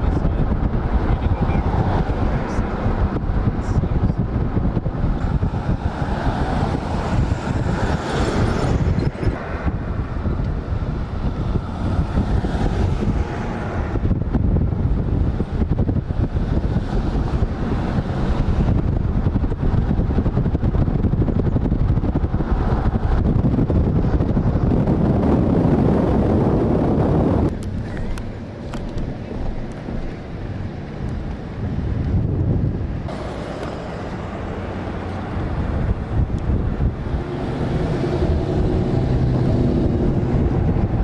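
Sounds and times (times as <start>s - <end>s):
engine rumble: 0.0s - 41.0s
wind buffeting microphone: 0.0s - 41.0s.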